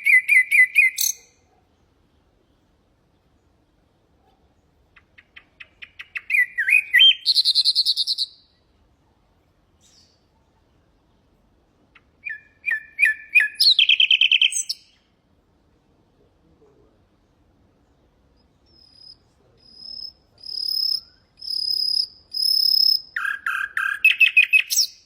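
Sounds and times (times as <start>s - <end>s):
nightingale singing: 0.0s - 3.8s, 4.4s - 9.1s, 9.8s - 15.2s, 17.2s - 25.0s.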